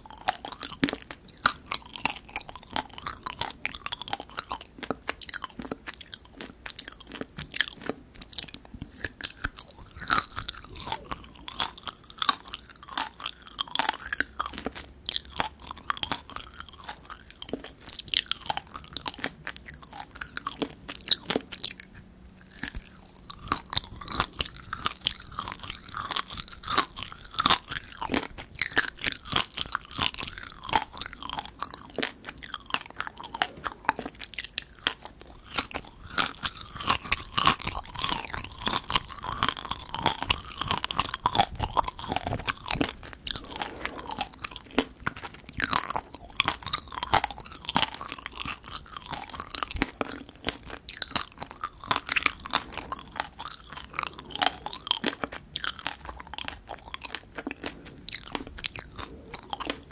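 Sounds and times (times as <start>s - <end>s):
chewing with small crunches: 0.0s - 59.9s.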